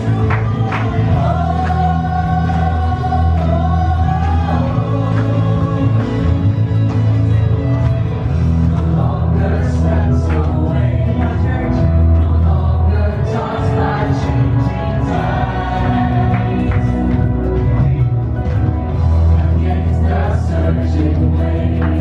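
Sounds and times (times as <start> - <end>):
band playing worship music: 0.0 - 22.0
group of singers: 0.0 - 22.0
steady bass line: 0.0 - 22.0.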